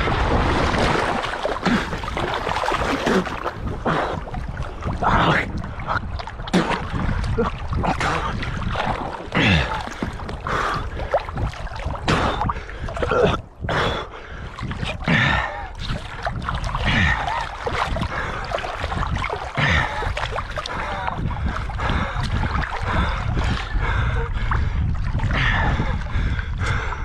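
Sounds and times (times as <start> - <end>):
splashes and knocks: 0.0 - 13.4, 14.6 - 23.7
water sloshing against boat hull: 0.0 - 27.0
wind buffeting microphone: 0.0 - 27.0.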